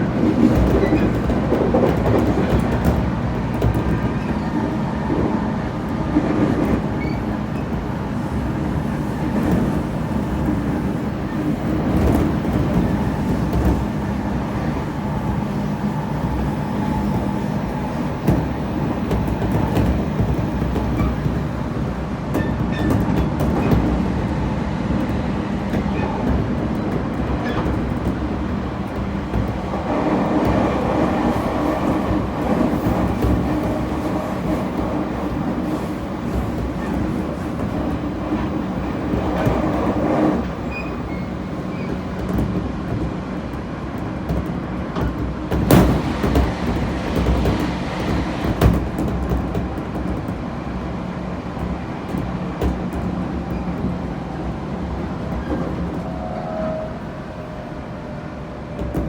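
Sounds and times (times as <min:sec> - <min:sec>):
train wheel and rail noise: 0:00.0 - 0:59.0.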